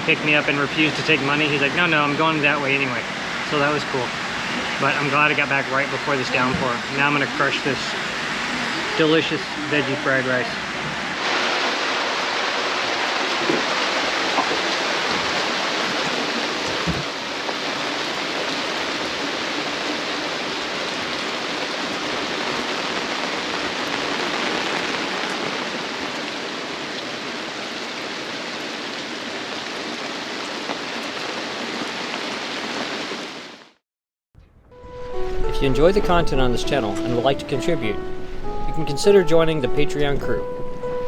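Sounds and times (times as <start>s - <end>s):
heavy rain pouring: 0.0s - 33.8s, 34.7s - 41.0s.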